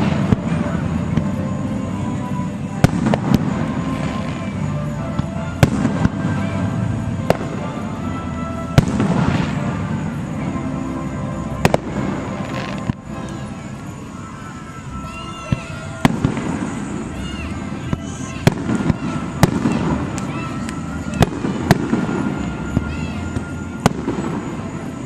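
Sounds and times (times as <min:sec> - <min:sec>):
fireworks bursting with bangs: 0:00.0 - 0:25.0
music: 0:00.0 - 0:25.0.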